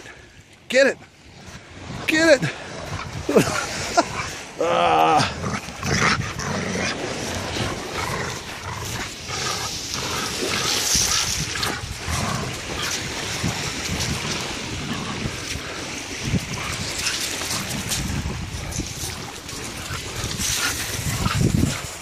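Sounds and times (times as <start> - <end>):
small waves lapping: 0.0 - 22.0
wind on microphone: 1.0 - 22.0.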